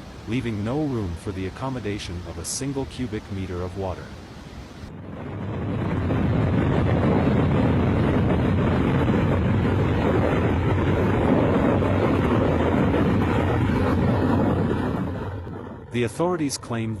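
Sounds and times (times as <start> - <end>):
water roaring from dam spillway: 0.0 - 17.0.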